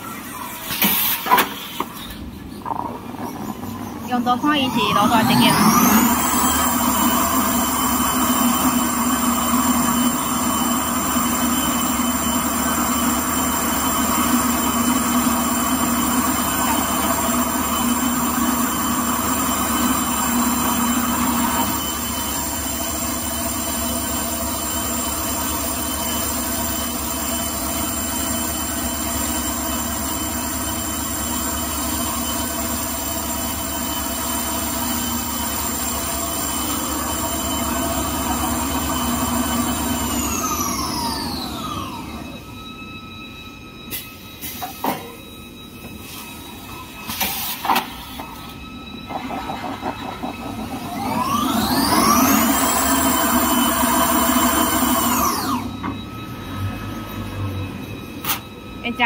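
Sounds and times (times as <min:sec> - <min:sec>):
machine humming and whining: 0:00.0 - 0:59.0.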